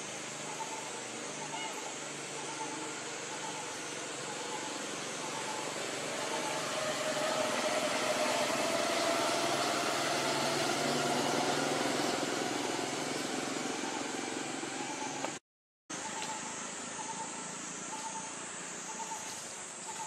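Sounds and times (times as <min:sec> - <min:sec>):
constant hiss: 0:00.0 - 0:20.0
engine hum: 0:00.0 - 0:20.0.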